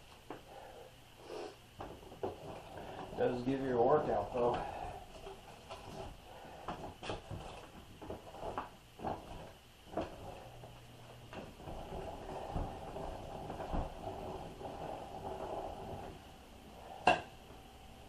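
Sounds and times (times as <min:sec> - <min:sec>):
meat grinder rasping: 0:01.9 - 0:17.0.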